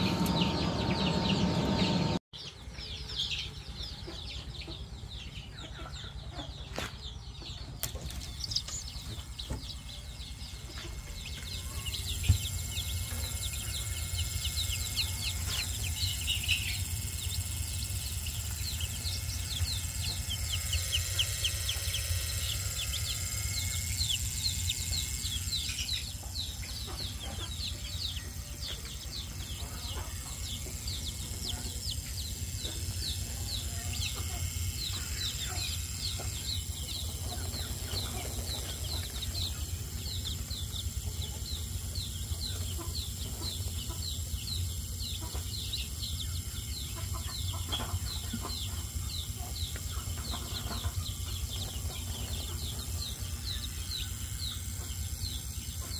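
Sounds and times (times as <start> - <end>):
chicks peeping: 0.0 - 55.9
steady low hum: 0.0 - 55.9.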